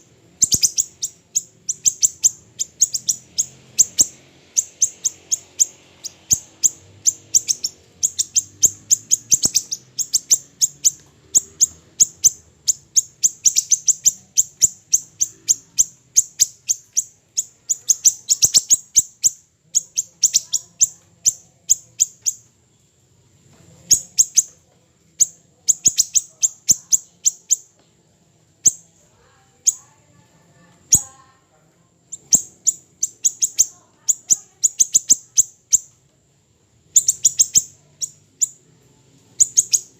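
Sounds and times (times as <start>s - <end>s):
songbird high chirps: 0.0s - 36.1s, 36.8s - 39.9s.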